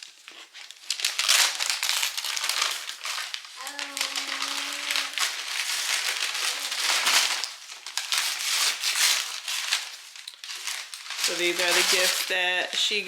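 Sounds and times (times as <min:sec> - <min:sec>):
wrapping paper crinkling: 0:00.0 - 0:12.9.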